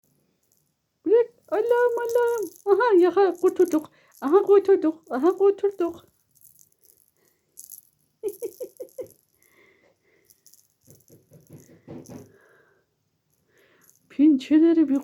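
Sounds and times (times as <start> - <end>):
toy rattle shaken: 1.2 - 9.6, 10.2 - 12.4, 13.3 - 15.0.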